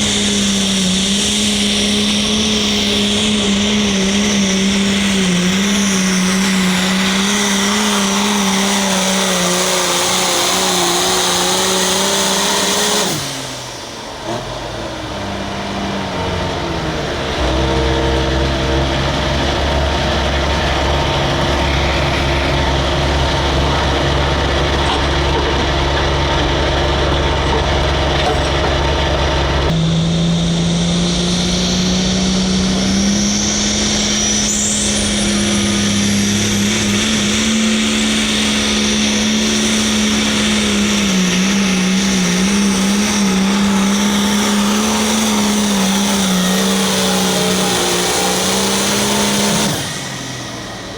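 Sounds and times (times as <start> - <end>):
diesel tractor engine under load: 0.0 - 50.9.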